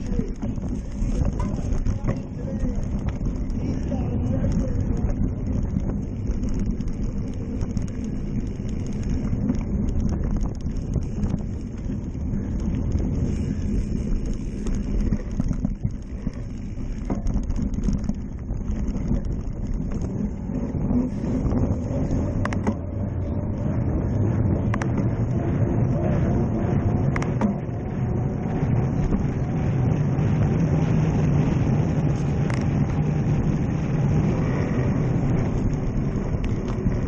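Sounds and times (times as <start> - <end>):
bike tyres rumbling: 0.0 - 37.0
wind buffeting microphone: 0.0 - 37.0.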